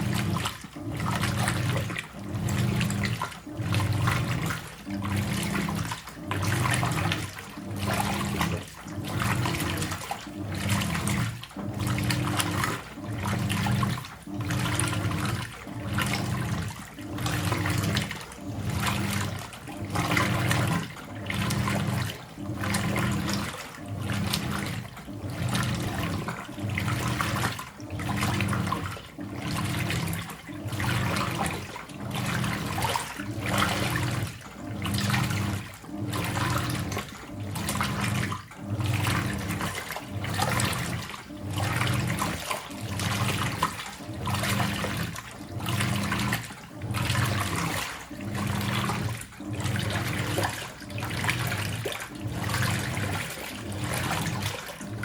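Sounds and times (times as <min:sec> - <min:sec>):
washing machine motor hum: 0:00.0 - 0:55.0
water sloshing: 0:00.0 - 0:55.0.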